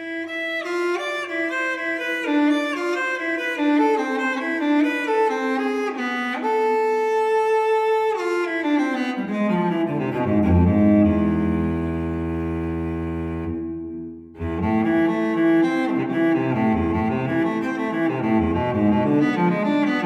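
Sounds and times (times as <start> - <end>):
bowed string music: 0.0 - 20.0.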